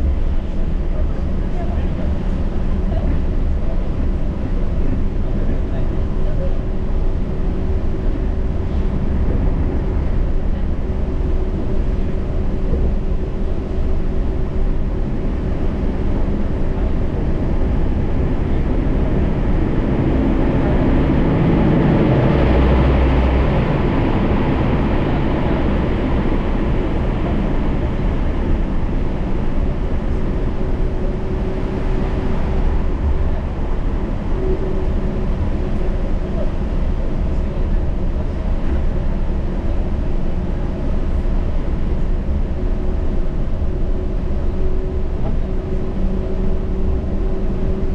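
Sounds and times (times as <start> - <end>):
constant low hum: 0.0 - 47.9
train rumble and tyre noise: 0.0 - 47.9.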